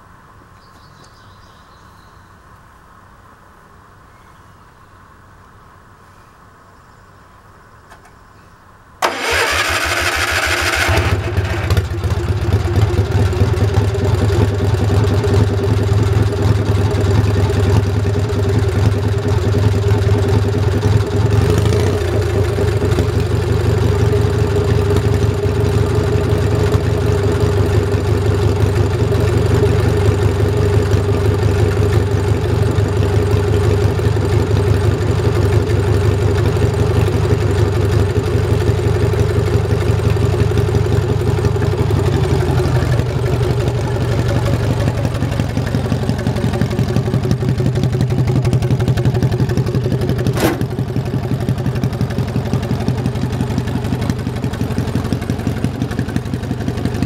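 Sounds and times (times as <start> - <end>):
tractor engine running: 9.0 - 57.0.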